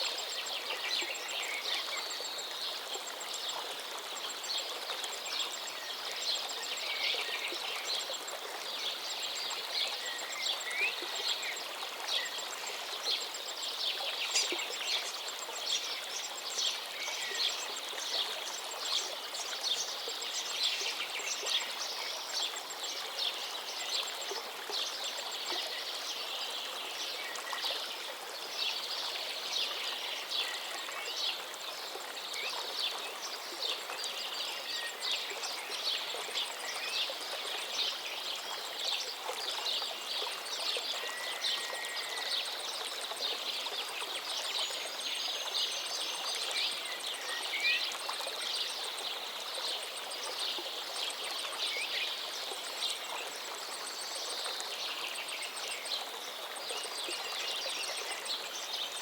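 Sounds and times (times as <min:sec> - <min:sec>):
river water running: 0:00.0 - 0:59.0.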